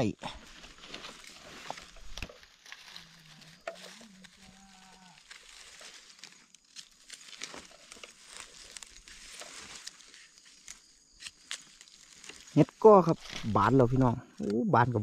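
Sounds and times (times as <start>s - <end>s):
dry leaves crackling and rustling: 0.4s - 14.0s.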